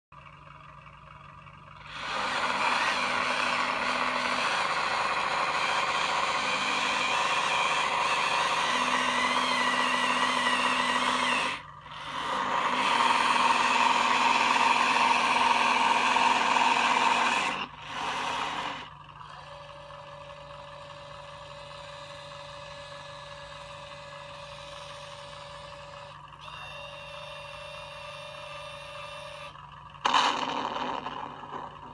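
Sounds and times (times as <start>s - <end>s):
small electric motors whining: 1.8s - 31.9s.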